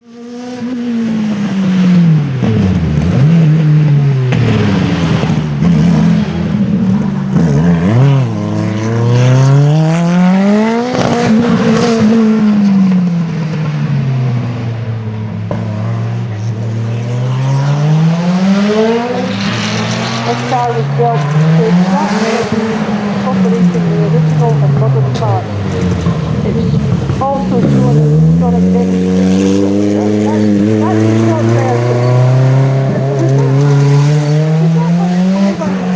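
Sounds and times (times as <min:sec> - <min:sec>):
rally car engine at high revs: 0:00.0 - 0:35.9.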